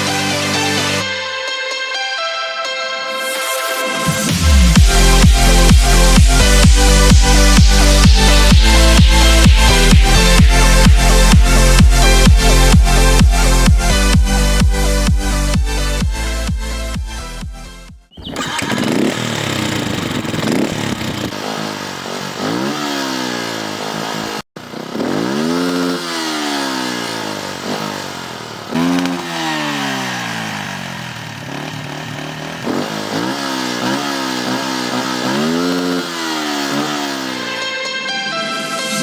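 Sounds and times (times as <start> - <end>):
motorcycle engine revving: 3.9 - 17.5, 18.1 - 39.0.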